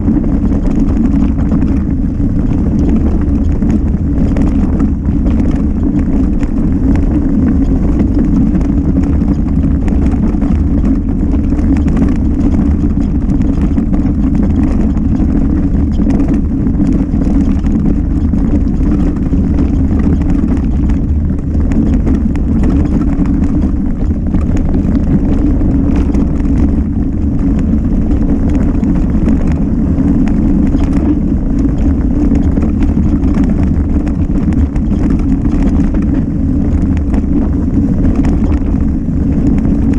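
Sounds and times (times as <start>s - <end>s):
bike rattling and knocking: 0.0s - 39.9s
wind rumbling on microphone: 0.0s - 39.9s.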